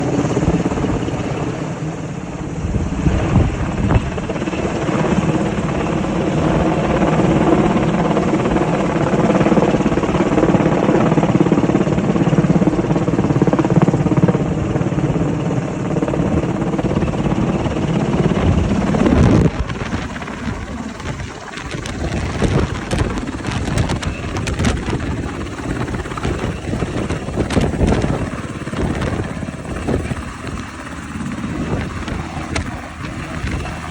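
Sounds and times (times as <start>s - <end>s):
gusty buffeting noise: 0.0s - 33.9s
helicopter rotor and engines: 0.0s - 33.9s.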